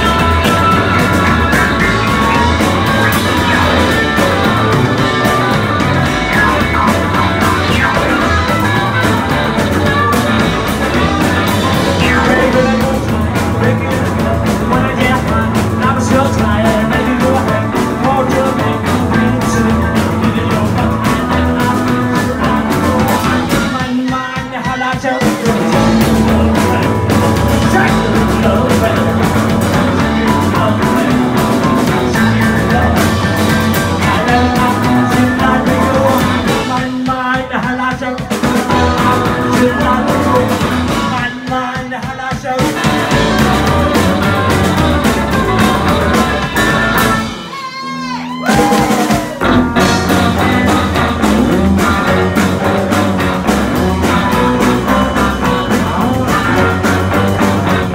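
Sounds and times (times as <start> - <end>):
keyboard: 0.0 - 37.0, 42.6 - 57.9
electric guitar: 0.0 - 57.9
man singing: 0.0 - 57.9.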